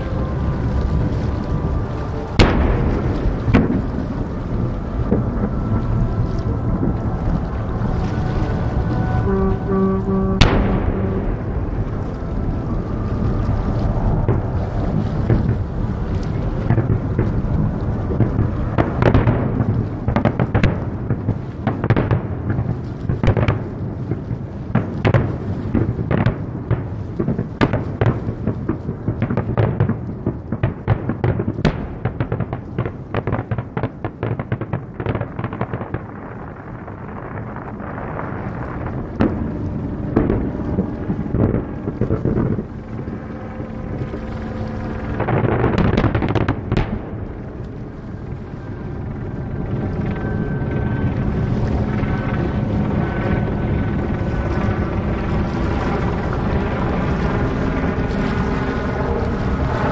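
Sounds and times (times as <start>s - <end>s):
firework bangs and crackles: 0.0s - 59.9s.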